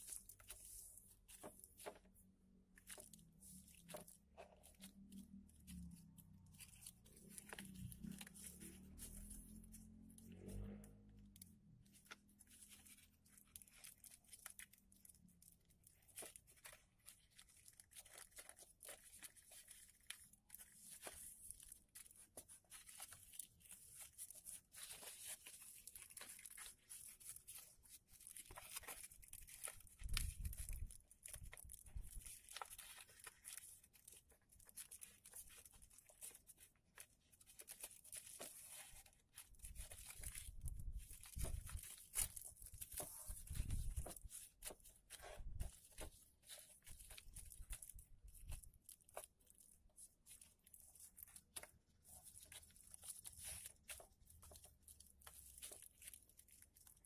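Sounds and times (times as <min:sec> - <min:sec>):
paper rustling and crinkling: 0:00.0 - 0:57.0.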